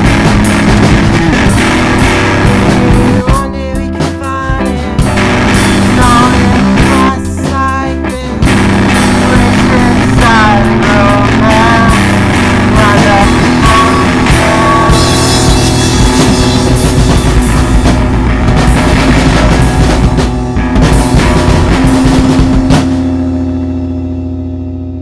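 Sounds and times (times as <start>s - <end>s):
drum kit: 0.0s - 25.0s
guitars: 0.0s - 25.0s
loud rock song: 0.0s - 25.0s.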